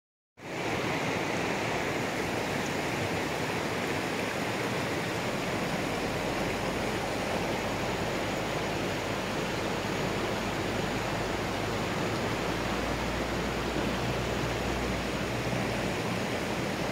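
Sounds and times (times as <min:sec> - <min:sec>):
river water rushing over rocks: 0:00.4 - 0:16.9.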